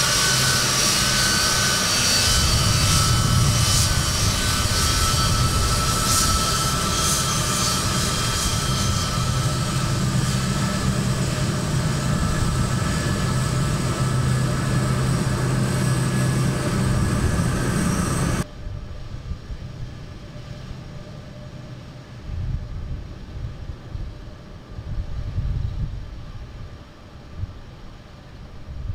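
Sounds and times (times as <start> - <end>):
jet engines rumbling with whine: 0.0 - 28.9.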